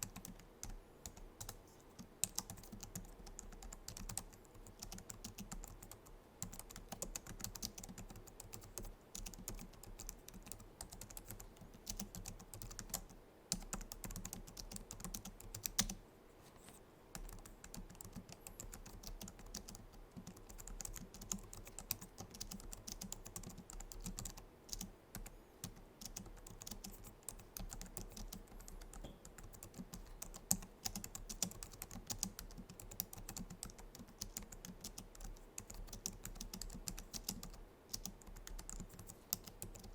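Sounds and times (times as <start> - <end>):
fast typing on keyboard: 0.0 - 16.0, 17.1 - 39.9.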